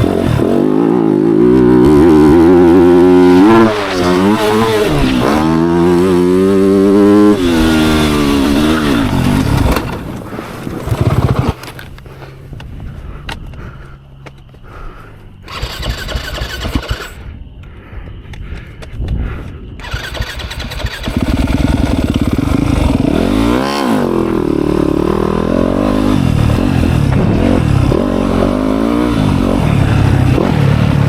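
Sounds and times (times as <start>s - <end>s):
dirt bike engine revving: 0.0s - 12.4s, 15.5s - 17.2s, 19.8s - 31.0s.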